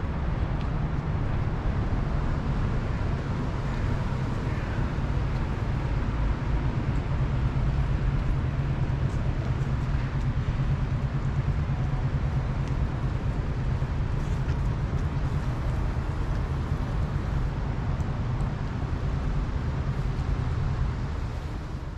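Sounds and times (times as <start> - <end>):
low background rumble: 0.0 - 21.9.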